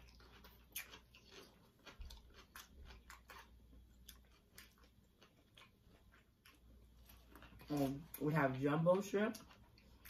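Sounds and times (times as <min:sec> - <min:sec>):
faint chewing and mouth clicks: 0:00.0 - 0:10.0.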